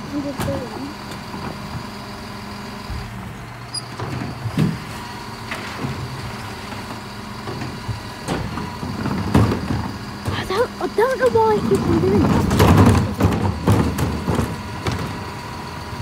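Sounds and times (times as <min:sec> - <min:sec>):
bins clunking and knocking: 0:00.0 - 0:01.8, 0:03.9 - 0:15.4
electric bin lifters: 0:00.0 - 0:16.0
lorry engine running: 0:00.0 - 0:16.0.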